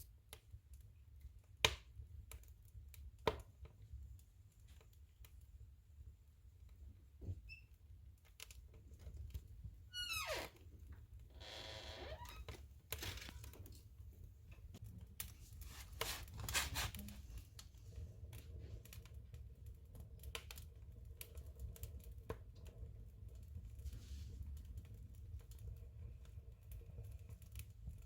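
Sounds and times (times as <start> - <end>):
firewood crackling and popping: 0.0 - 5.7, 8.0 - 28.0.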